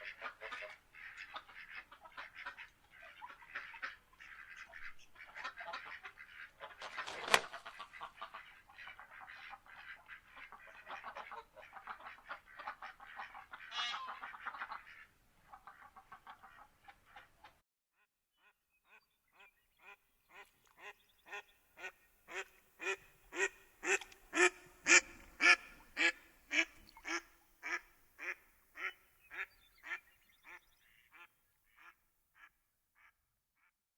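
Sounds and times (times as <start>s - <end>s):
ducks quacking: 0.0s - 17.6s, 19.3s - 33.1s.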